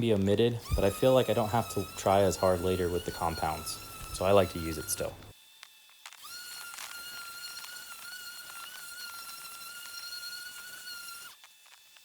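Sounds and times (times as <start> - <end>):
orbital polisher motor whine: 0.0 - 12.0.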